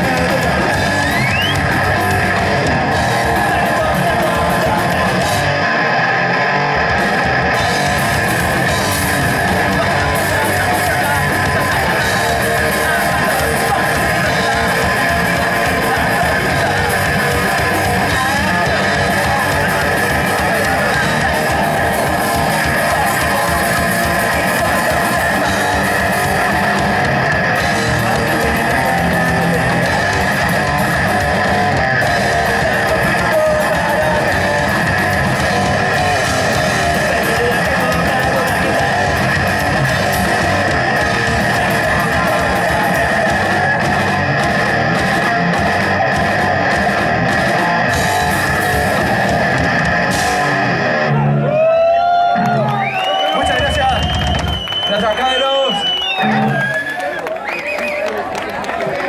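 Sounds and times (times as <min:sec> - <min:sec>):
electric bass: 0:00.0 - 0:55.2
drum kit: 0:00.0 - 0:56.8
electric guitar: 0:00.0 - 0:59.0.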